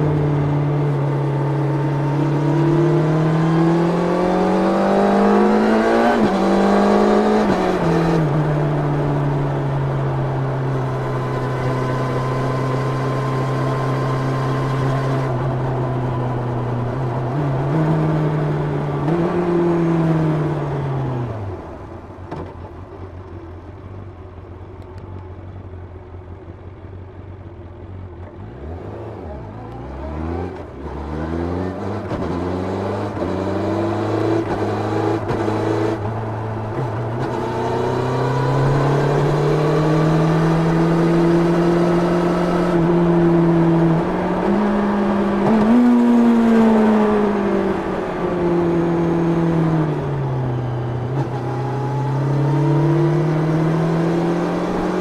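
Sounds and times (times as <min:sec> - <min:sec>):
motorcycle engine revving: 0:00.0 - 0:21.3, 0:28.2 - 0:55.0.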